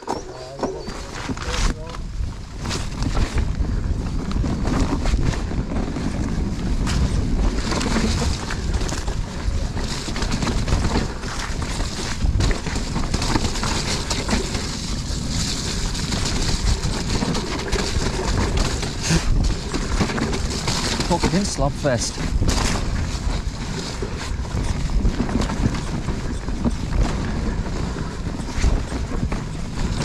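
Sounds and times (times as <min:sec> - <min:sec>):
bike clicks and rattles: 0:00.0 - 0:30.0
wind buffeting microphone: 0:00.0 - 0:30.0.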